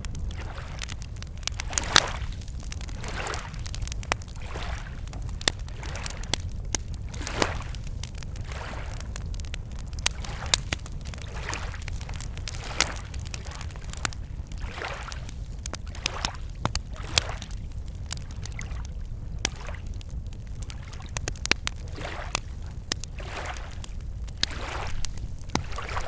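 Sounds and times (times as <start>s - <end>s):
campfire crackling and popping: 0.0s - 26.0s
waves lapping against shore: 0.1s - 18.8s, 19.4s - 19.9s, 21.8s - 26.0s.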